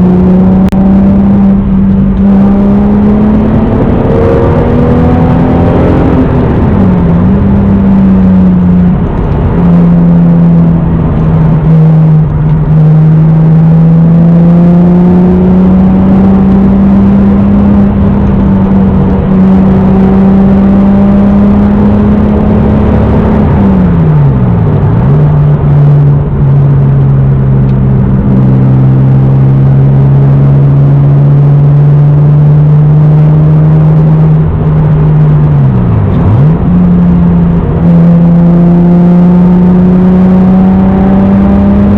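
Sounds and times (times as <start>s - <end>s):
car engine while driving: 0.0s - 41.9s.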